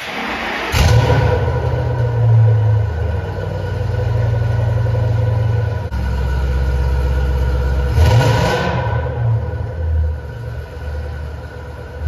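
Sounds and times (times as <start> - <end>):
car engine idling: 0.0 - 12.0
car engine revving: 0.0 - 12.0.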